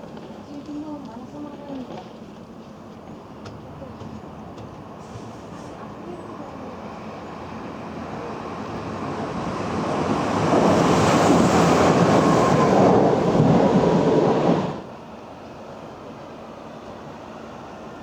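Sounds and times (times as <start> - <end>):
train passing close by: 0.0 - 18.0
train wheels rushing on rail: 0.0 - 18.0.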